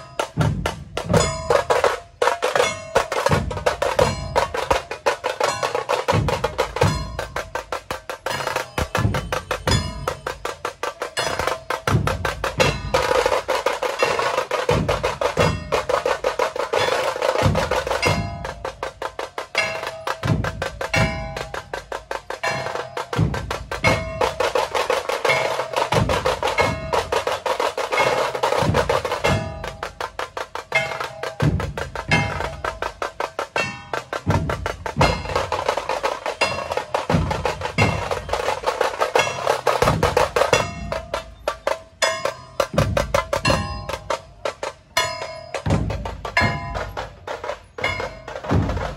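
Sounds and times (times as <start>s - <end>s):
deep drum beats: 0.0s - 48.9s
fast snare-like drum rolls: 0.0s - 48.9s.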